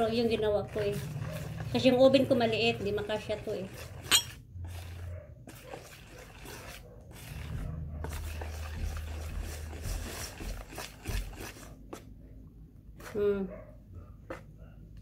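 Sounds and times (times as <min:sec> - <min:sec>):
whisk scraping plastic bowl: 0:00.0 - 0:12.1.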